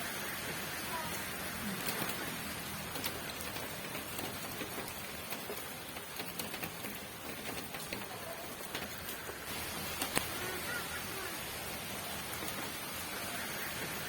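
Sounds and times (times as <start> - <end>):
raindrops ticking on hard surface: 0.0 - 14.0
steady rain hiss: 0.0 - 14.0.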